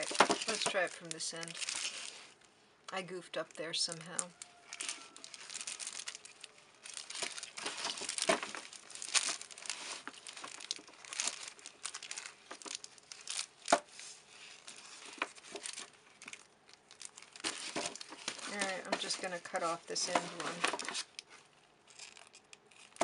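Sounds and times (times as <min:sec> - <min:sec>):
foil wrappers crinkling: 0:00.0 - 0:23.0.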